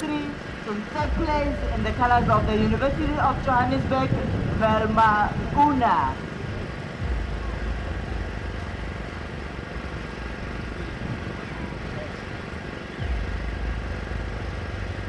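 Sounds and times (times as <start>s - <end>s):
faint crowd chatter: 0.0s - 15.0s
low rumble: 0.0s - 15.0s.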